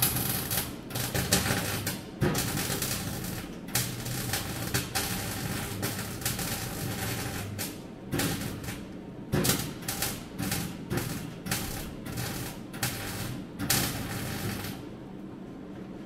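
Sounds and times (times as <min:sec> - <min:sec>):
welding bursts: 0:00.0 - 0:14.8
low steady hum: 0:00.0 - 0:16.0.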